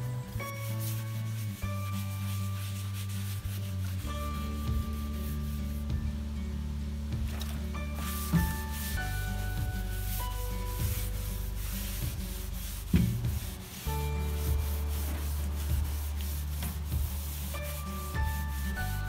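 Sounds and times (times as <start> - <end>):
cloth rubbing on rusty steel: 0.0 - 6.3, 7.2 - 19.0
background music with bass: 0.0 - 19.0.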